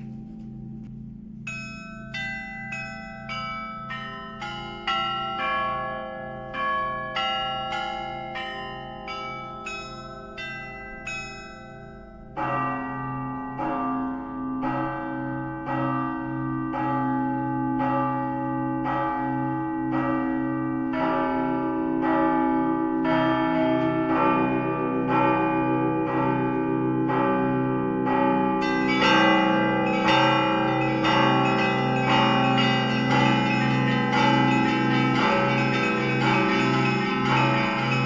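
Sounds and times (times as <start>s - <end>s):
church bells ringing: 0.0s - 38.0s
deep sustained low bell: 0.0s - 38.0s.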